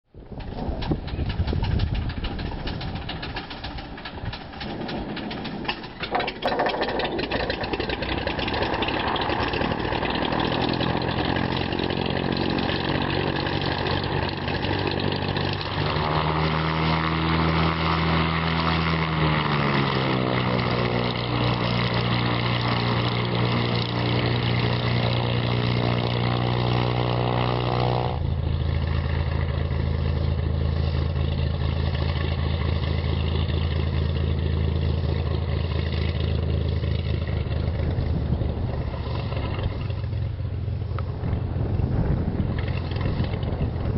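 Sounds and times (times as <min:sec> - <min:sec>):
aircraft piston engine starting: 0:00.3 - 0:43.9.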